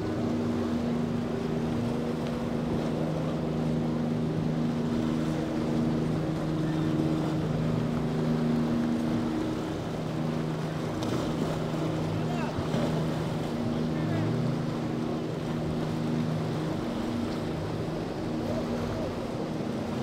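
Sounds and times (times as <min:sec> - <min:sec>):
motorboat engine running: 0:00.0 - 0:20.0
wind and water noise: 0:00.0 - 0:20.0.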